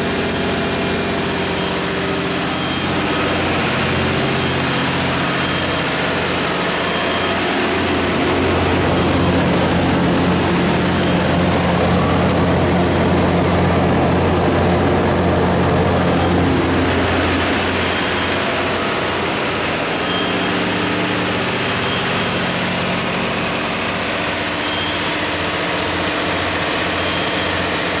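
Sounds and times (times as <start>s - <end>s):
cooling fan air rushing: 0.0s - 28.0s
diesel generator droning: 0.0s - 28.0s.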